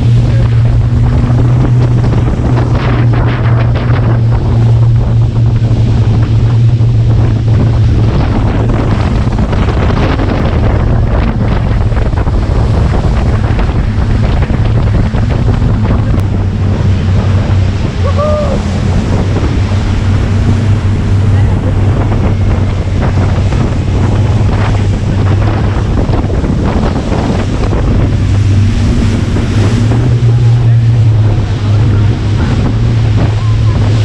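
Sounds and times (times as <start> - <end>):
motorboat engine drone: 0.0 - 34.0
rushing water: 0.0 - 34.0
wind buffeting microphone: 0.0 - 34.0.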